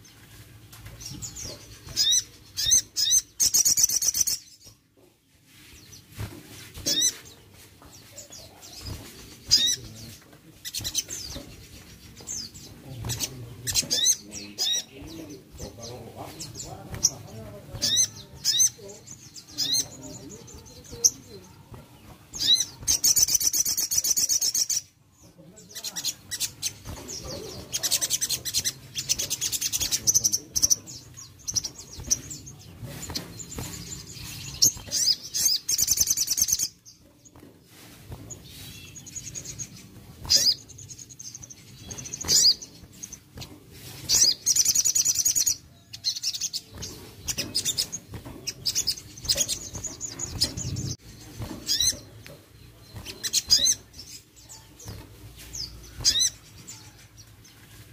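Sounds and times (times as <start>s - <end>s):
sunbird chirping trills: 0.0s - 57.9s.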